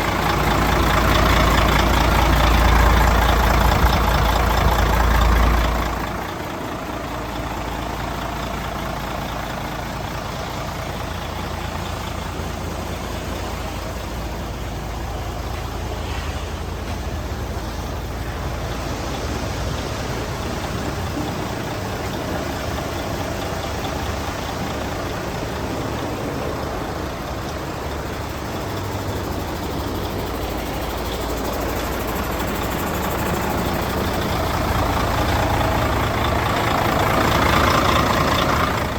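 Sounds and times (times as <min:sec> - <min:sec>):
truck diesel engine idling: 0:00.0 - 0:38.9.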